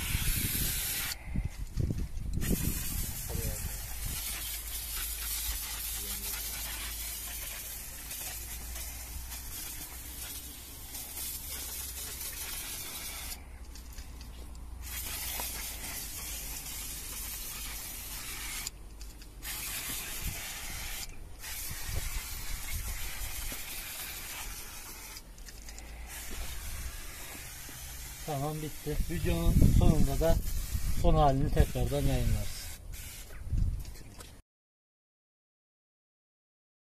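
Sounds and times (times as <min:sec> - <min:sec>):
aerosol can spraying: 0:00.0 - 0:01.2, 0:02.4 - 0:13.5, 0:14.8 - 0:33.4.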